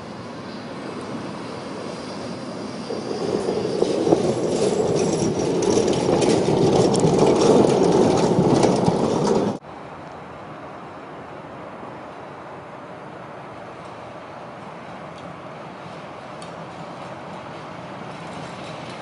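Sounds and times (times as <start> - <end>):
tram rumbling over rails: 0.0 - 19.0.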